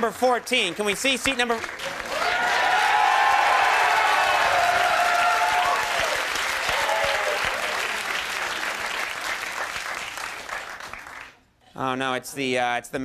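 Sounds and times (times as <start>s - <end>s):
audience applauding: 0.5s - 11.4s.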